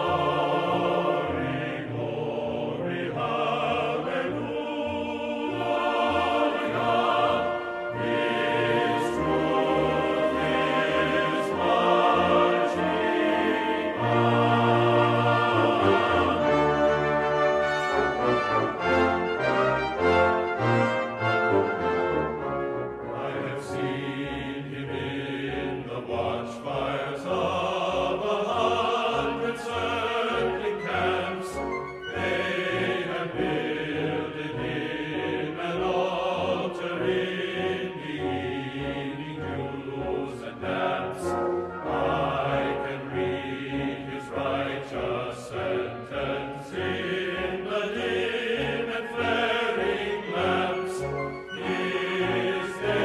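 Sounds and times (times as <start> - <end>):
choir singing with orchestra: 0.0 - 53.0.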